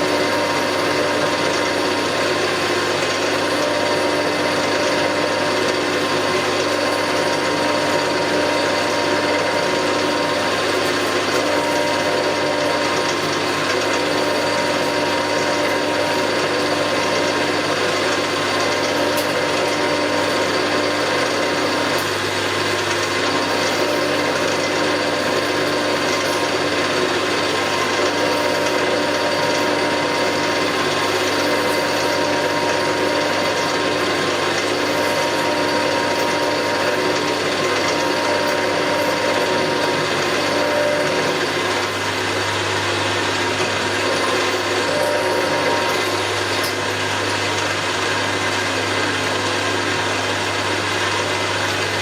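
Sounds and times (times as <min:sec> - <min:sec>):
cutter rasping on metal: 0:00.0 - 0:49.8
milling machine hum: 0:00.0 - 0:52.0.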